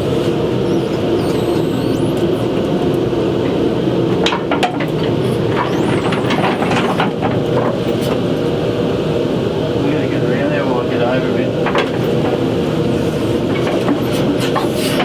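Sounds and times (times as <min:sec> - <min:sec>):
mining machinery droning: 0:00.0 - 0:15.0.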